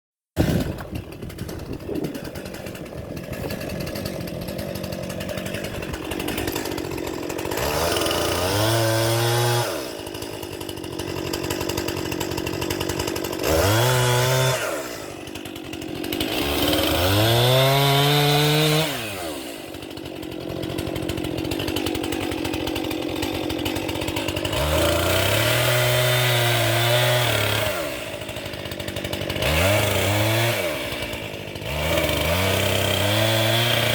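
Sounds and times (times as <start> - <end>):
two-stroke chainsaw running: 0.4 - 33.9.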